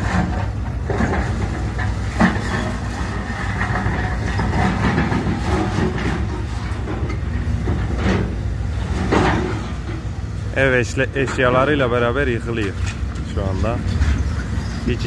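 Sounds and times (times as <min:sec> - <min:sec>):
demolition clatter and knocking: 0:00.0 - 0:15.0
heavy machinery running: 0:00.0 - 0:15.0.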